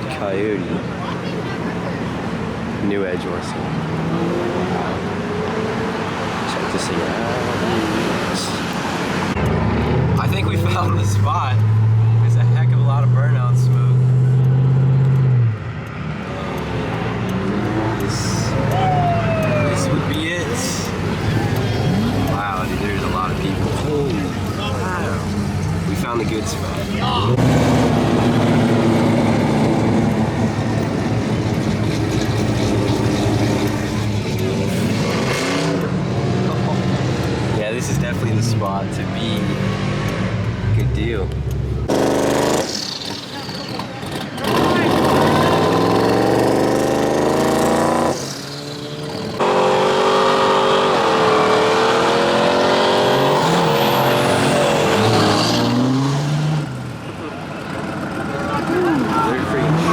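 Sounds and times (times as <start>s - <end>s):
car engines droning: 0.0s - 59.9s.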